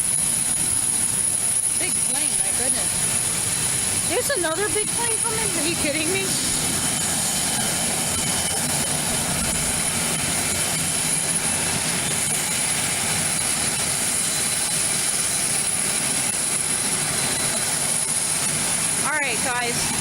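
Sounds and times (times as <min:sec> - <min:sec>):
aircraft engine noise: 0:00.0 - 0:20.0.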